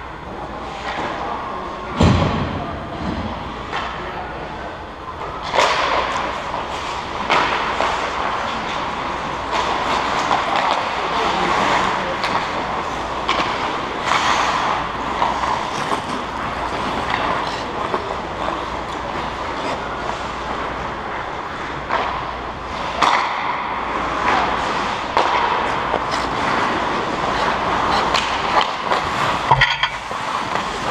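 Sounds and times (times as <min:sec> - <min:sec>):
sticks and puck clacking: 0:05.4 - 0:30.9
skate blades scraping ice: 0:05.5 - 0:30.9.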